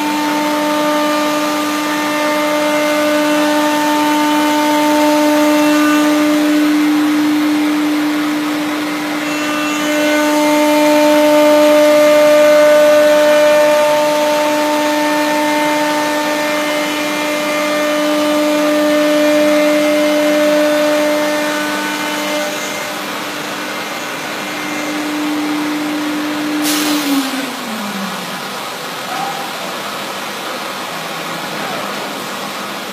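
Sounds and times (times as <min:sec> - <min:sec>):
router spindle whine: 0:00.0 - 0:29.6.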